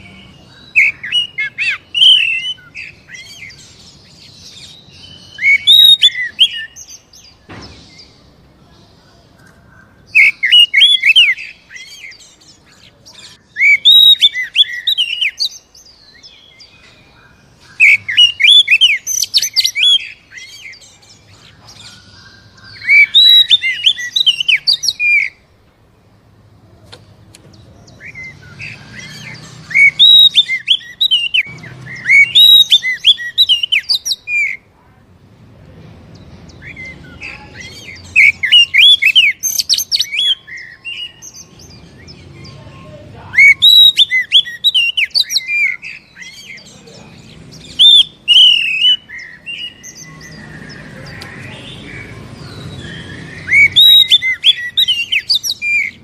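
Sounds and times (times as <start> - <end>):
bird singing whistles and chirps: 0.0 - 8.3, 10.1 - 25.4, 27.8 - 34.6, 36.4 - 42.6, 43.3 - 56.0.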